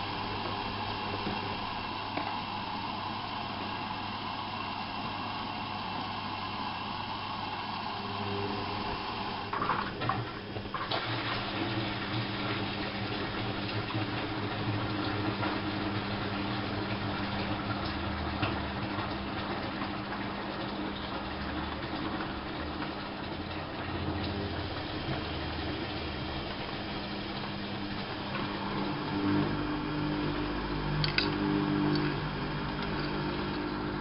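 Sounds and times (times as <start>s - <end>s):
low motor hum: 0.0s - 34.0s
water rushing in washing machine: 0.0s - 34.0s.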